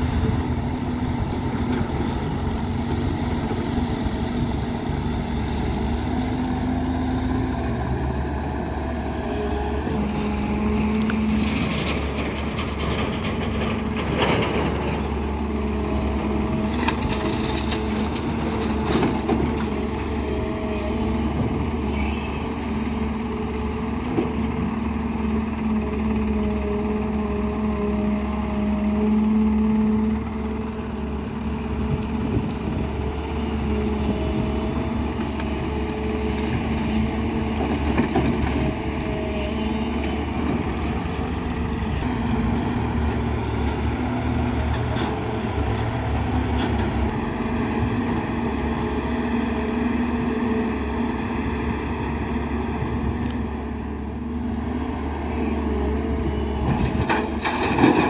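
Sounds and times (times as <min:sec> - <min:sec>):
excavator diesel engine running: 0:00.0 - 0:58.0
tractor engines idling: 0:00.0 - 0:58.0.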